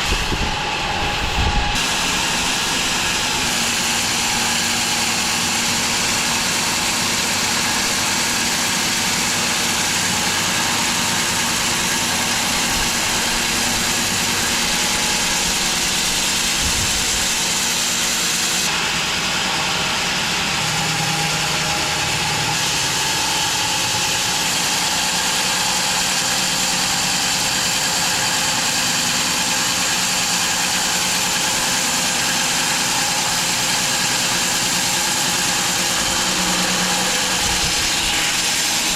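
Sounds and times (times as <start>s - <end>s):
bandsaw blade sawing log: 0.0s - 38.9s.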